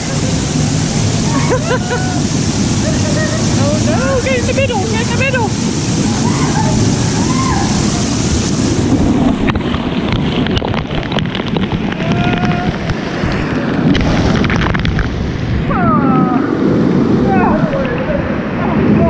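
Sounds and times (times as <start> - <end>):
water splashing on microphone: 0.0 - 19.0
wind buffeting microphone: 0.0 - 19.0.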